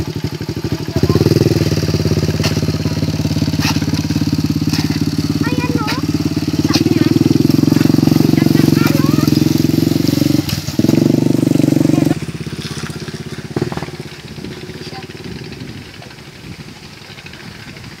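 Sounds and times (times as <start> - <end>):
motorcycle engine pulling away: 0.0 - 18.0.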